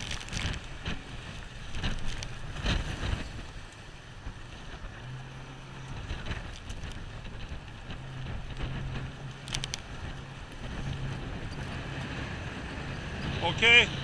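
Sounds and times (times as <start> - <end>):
water splashing against a boat: 0.0 - 14.0
wind buffeting the microphone: 0.0 - 14.0.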